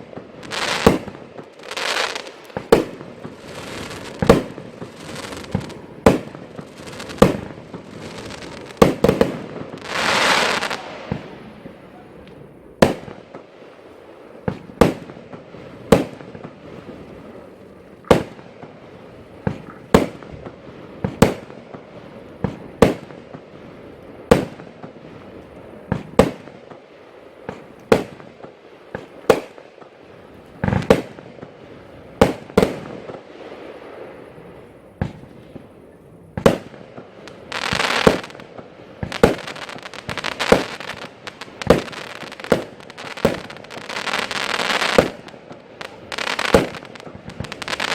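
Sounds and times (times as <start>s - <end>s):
fireworks bangs: 0.0s - 47.9s
fireworks crackling: 0.0s - 47.9s.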